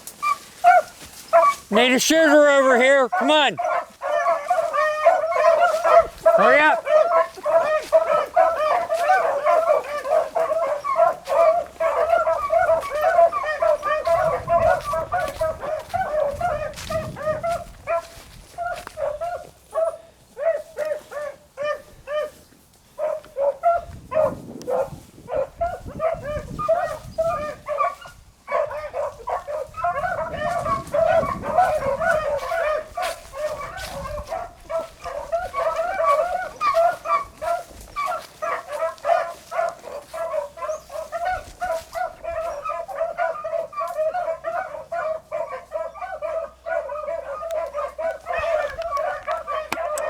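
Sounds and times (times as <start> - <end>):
dogs baying: 0.0 - 50.0.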